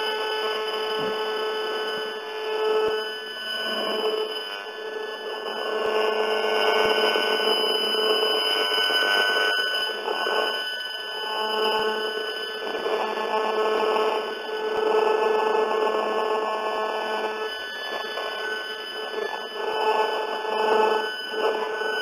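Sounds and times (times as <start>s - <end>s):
buzzing drone of held tones: 0.0s - 22.0s.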